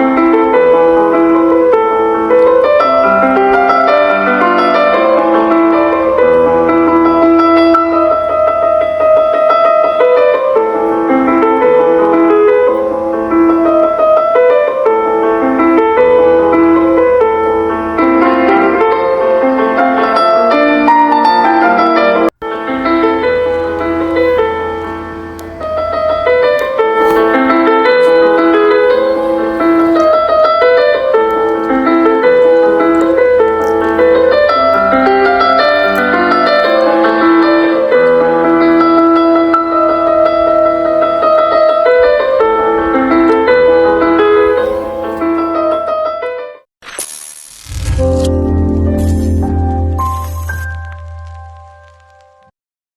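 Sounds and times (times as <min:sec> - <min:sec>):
piano music: 0:00.0 - 0:46.7, 0:48.0 - 0:52.5.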